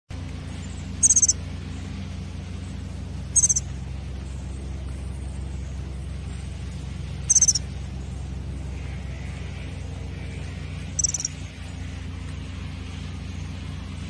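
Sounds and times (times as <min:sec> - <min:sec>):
steady low hum: 0:00.1 - 0:14.0
small bird chittering: 0:00.4 - 0:01.9, 0:02.6 - 0:12.4.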